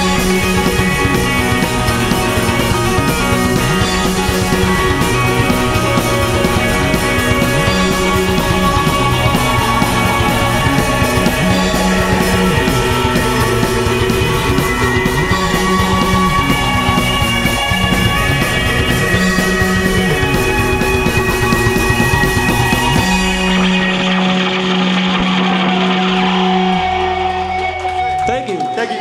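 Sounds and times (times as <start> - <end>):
drums: 0.0 - 29.0
electric guitars: 0.0 - 29.0.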